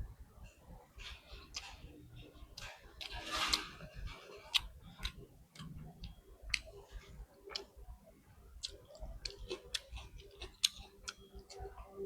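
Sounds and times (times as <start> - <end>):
close-up chewing: 1.0 - 7.9, 8.5 - 12.0.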